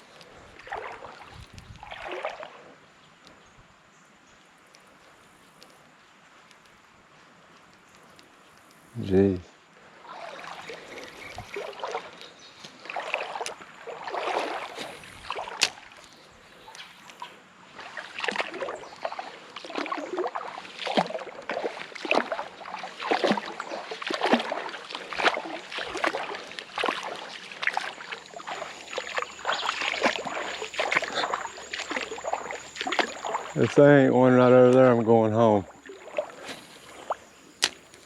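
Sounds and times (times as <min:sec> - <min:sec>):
legs wading through water: 0:00.0 - 0:03.4, 0:09.8 - 0:38.0.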